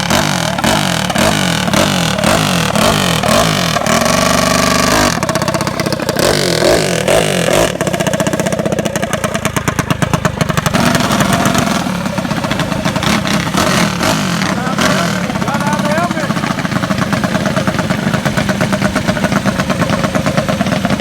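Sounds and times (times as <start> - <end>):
mini bike engines revving: 0.0 - 21.0.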